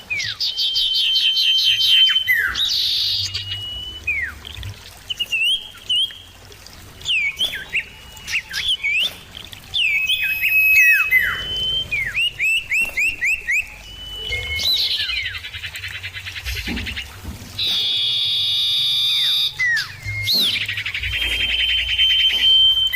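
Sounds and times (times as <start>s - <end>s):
bird whistling song: 0.0s - 22.9s.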